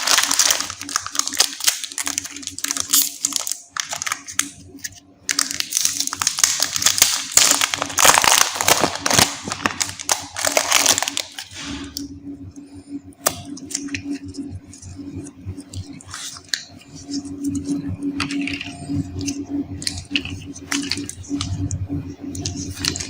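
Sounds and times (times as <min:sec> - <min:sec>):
plastic wrappers crinkling: 0:00.0 - 0:12.1, 0:15.6 - 0:23.0
low steady hum: 0:00.0 - 0:23.0.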